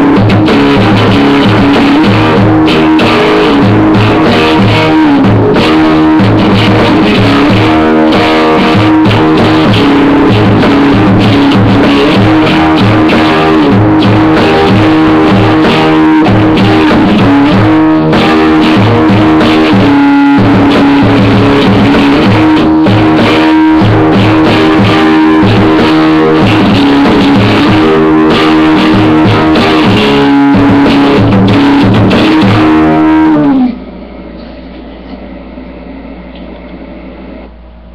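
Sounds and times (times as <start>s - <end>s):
loud rock guitar music: 0.0s - 35.1s.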